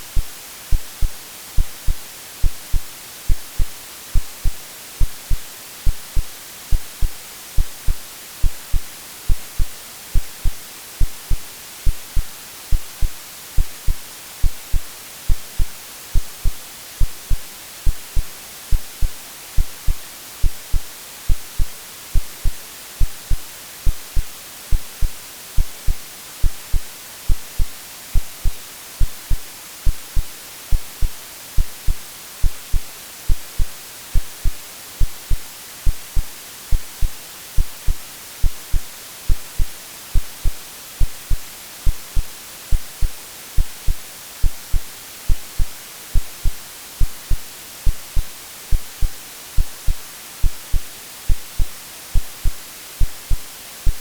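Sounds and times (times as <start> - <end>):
white noise hiss: 0.0 - 54.0
synthetic heartbeat thumps: 0.2 - 54.0.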